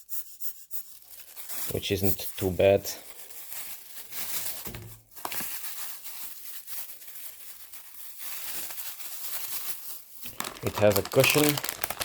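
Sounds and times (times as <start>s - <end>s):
packaging crinkling and rustling: 0.9s - 12.0s.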